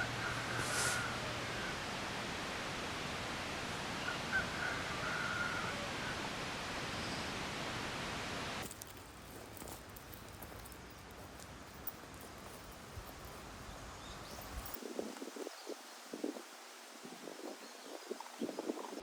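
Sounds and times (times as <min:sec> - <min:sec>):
outdoor noise haze: 0:00.0 - 0:19.0.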